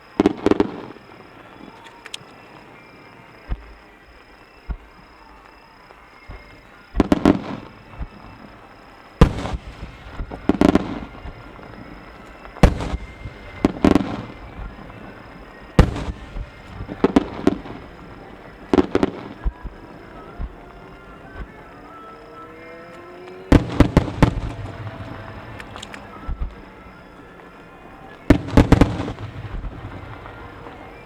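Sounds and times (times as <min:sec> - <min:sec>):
firework booms: 0:00.0 - 0:31.0
firework crackling: 0:00.0 - 0:31.0.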